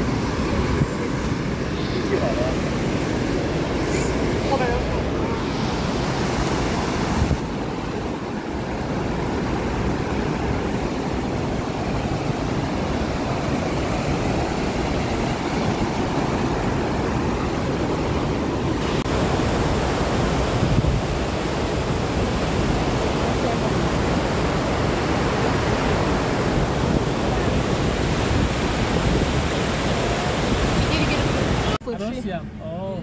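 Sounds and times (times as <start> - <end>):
waterfall rushing: 0.0 - 31.8
wind buffeting microphone: 0.0 - 31.8.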